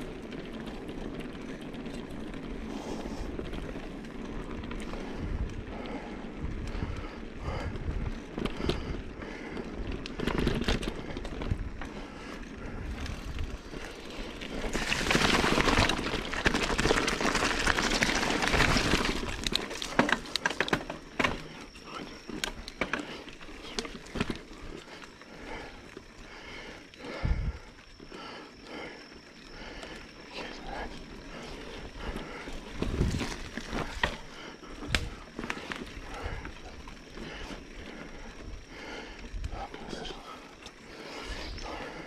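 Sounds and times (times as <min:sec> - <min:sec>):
bike rattling over bumps: 0:00.0 - 0:42.0
bike tyres crunching on dirt: 0:00.0 - 0:42.0.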